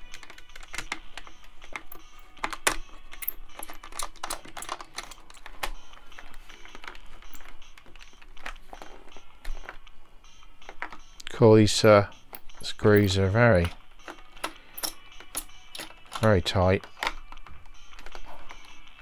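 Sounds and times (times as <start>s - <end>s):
plastic parts handled: 0.0s - 9.9s, 10.6s - 11.2s, 12.2s - 18.9s.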